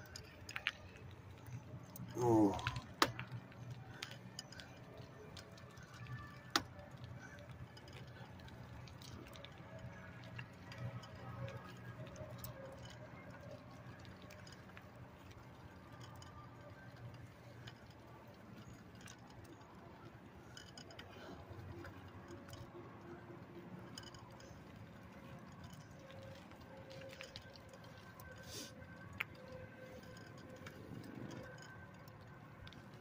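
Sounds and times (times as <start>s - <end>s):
small ticks and clicks: 0.0s - 33.0s.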